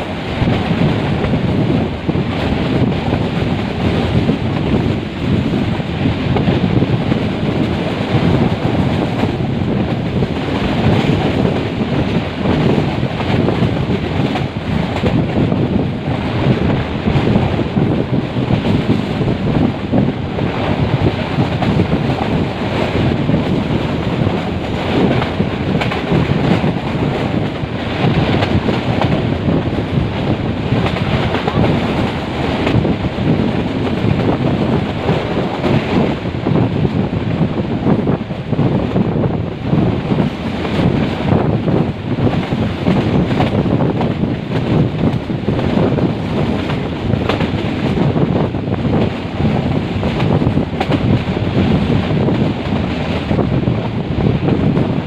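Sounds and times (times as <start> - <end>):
train rumbling: 0.0 - 55.0
wind buffeting microphone: 0.0 - 55.0.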